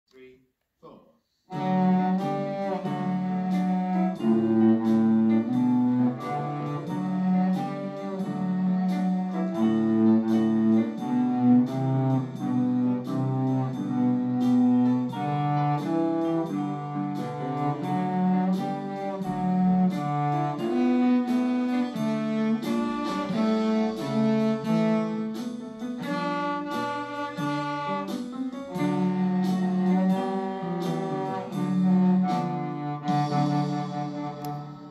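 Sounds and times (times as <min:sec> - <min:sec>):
cello playing blues tune: 0:01.5 - 0:34.9
steady ticking beat: 0:01.5 - 0:34.9.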